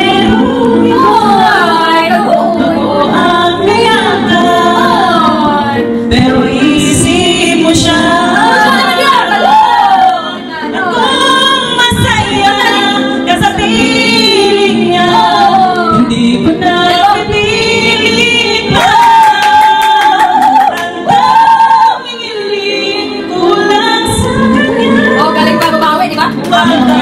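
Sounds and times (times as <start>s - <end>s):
women singing karaoke: 0.0s - 27.0s.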